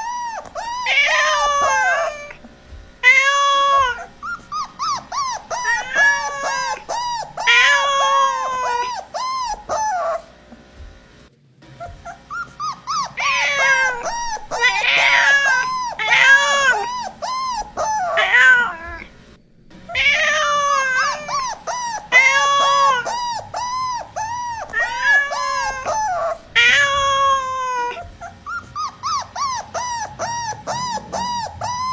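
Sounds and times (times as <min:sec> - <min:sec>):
dog whining yelps: 0:00.0 - 0:10.3, 0:11.8 - 0:19.1, 0:19.9 - 0:31.9.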